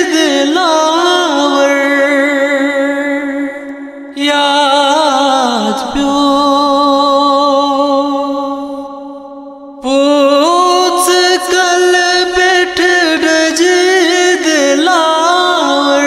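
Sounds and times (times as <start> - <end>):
man singing a lament: 0.0 - 16.0.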